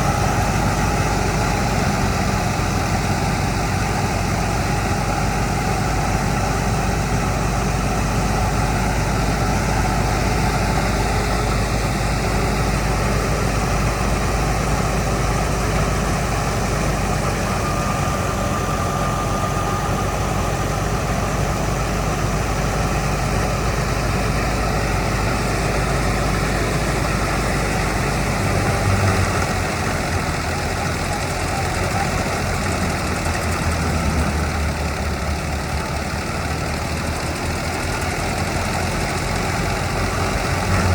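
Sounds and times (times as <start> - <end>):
harvester engine running: 0.0 - 40.9.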